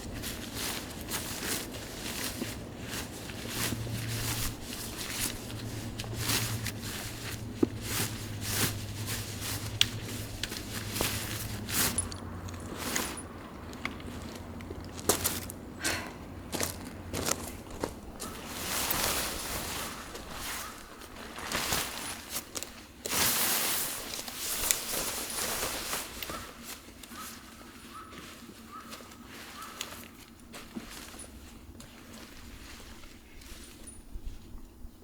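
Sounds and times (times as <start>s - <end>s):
footsteps: 0.0s - 34.0s
rustling and scraping gear: 0.0s - 35.0s.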